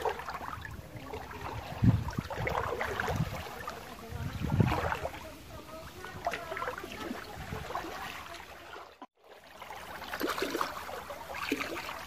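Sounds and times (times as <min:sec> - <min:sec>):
small splashes: 0:00.0 - 0:12.0
water sloshing and trickling: 0:00.0 - 0:12.0.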